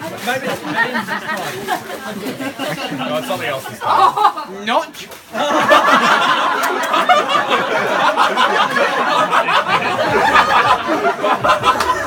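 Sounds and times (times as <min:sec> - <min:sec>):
group of people laughing: 0:00.0 - 0:04.6, 0:05.3 - 0:12.0.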